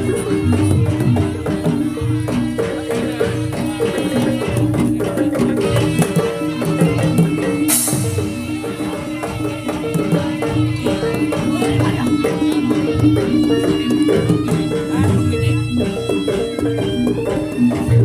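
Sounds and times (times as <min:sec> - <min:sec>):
drums beating: 0:00.0 - 0:18.0
gamelan music: 0:00.0 - 0:18.0.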